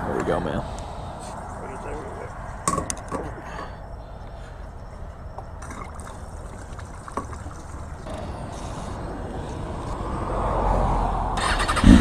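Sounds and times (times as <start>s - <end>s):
vehicle traffic rumble: 0.0s - 12.0s.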